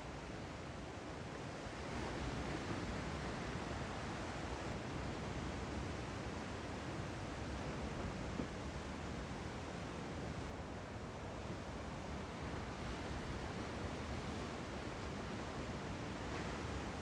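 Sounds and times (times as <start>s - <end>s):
wind: 0.0s - 17.0s
ocean surf: 0.2s - 17.0s.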